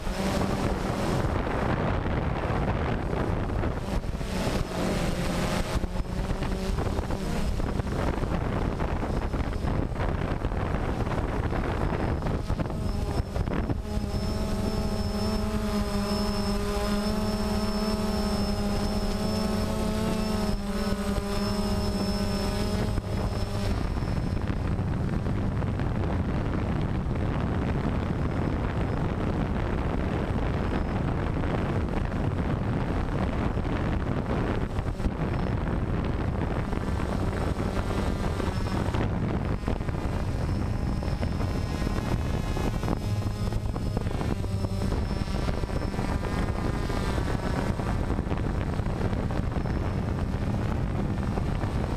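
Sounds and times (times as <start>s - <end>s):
drone motors whirring: 0.0s - 51.9s.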